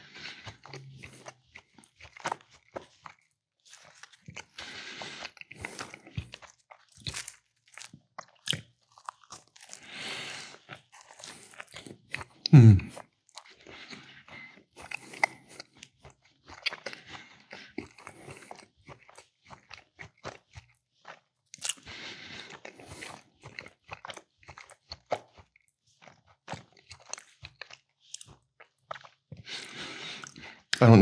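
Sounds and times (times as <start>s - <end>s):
bites and crunches of bread: 0.0s - 31.0s
wet chewing clicks and smacks: 0.3s - 9.9s, 10.5s - 31.0s.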